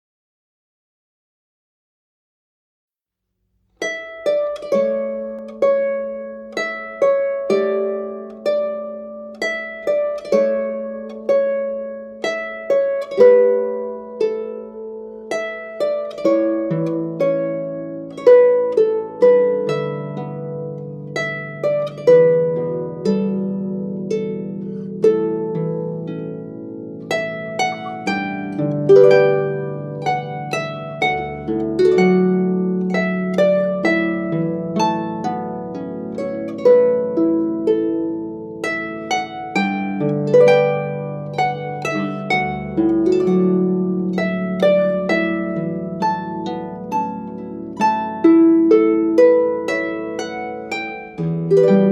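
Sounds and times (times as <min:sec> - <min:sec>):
harp playing slow melody: 0:03.8 - 0:51.9.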